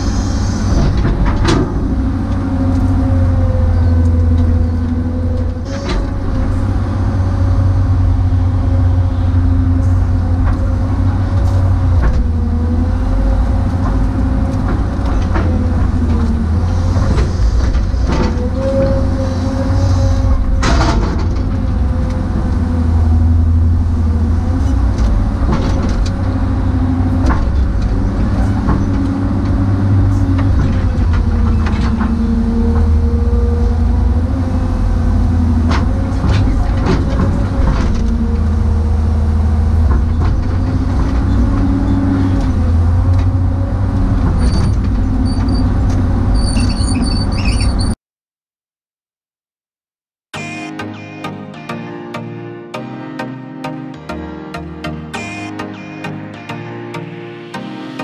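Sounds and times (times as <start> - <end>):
diesel engine under load: 0.0 - 48.0.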